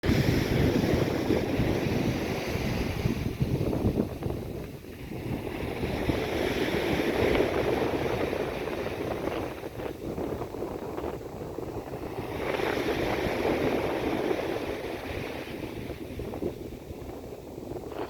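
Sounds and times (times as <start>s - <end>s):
sea waves washing in: 0.0s - 18.0s
wind buffeting microphone: 0.0s - 18.0s.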